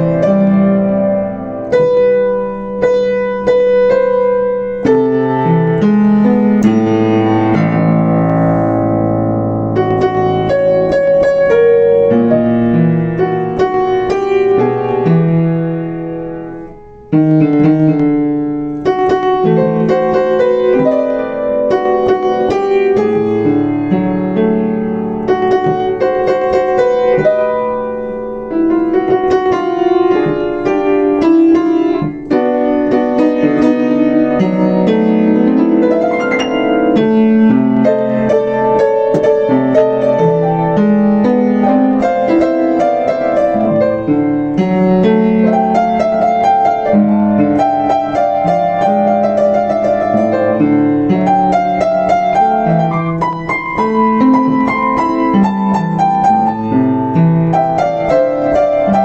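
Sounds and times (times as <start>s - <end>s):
upright piano playing: 0.0s - 59.0s.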